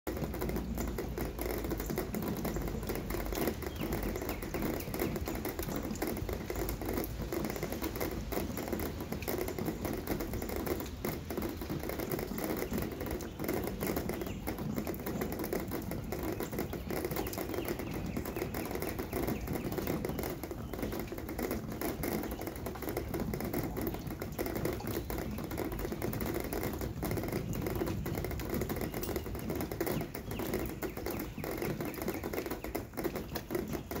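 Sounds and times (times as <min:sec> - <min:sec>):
steady rain patter: 0:00.1 - 0:34.0.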